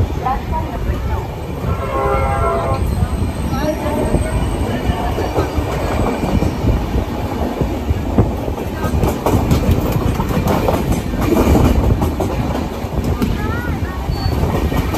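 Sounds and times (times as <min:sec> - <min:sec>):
train wheels rumbling on rail: 0:00.0 - 0:14.9.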